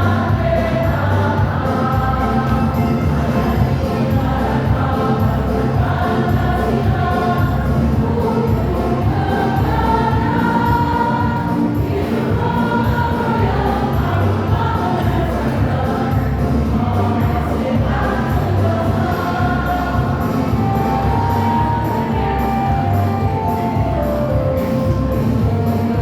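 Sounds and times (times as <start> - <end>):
choir singing in unison: 0.0 - 26.0
musical accompaniment: 0.0 - 26.0.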